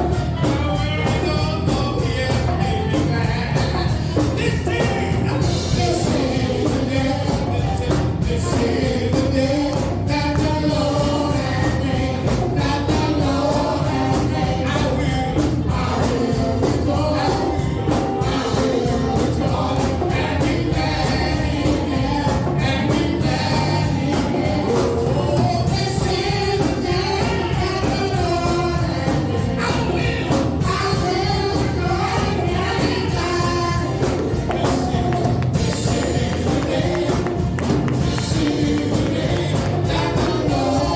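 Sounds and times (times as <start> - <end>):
band with steady beat: 0.0 - 40.9
gospel choir singing: 0.0 - 40.9.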